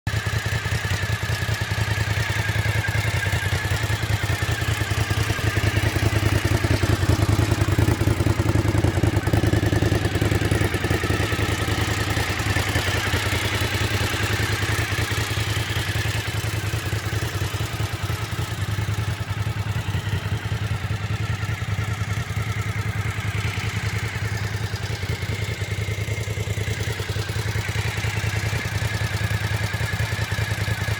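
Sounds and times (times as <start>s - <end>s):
motorcycle engine idling: 0.1s - 30.9s.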